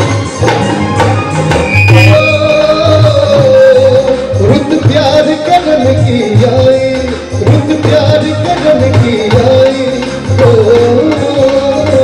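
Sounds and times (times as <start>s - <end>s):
band accompaniment: 0.0s - 12.0s
low drum beat: 0.0s - 12.0s
man singing into a microphone: 1.9s - 12.0s.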